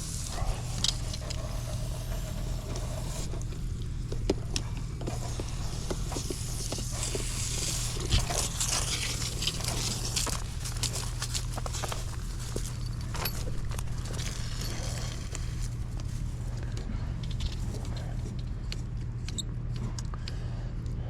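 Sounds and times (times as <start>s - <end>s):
light clicks and scrapes: 0.0s - 20.4s
low mechanical hum: 0.0s - 21.0s.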